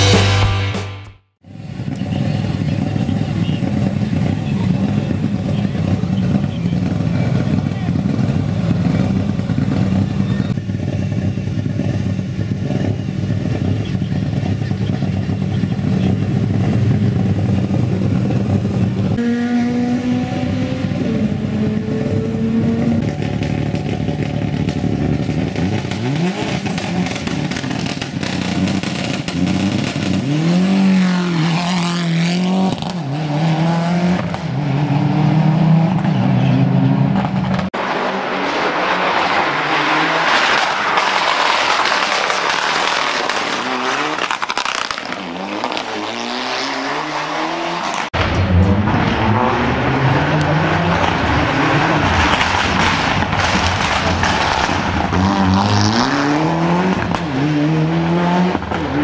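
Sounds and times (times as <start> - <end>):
car engine idling and revving: 1.4 - 59.0.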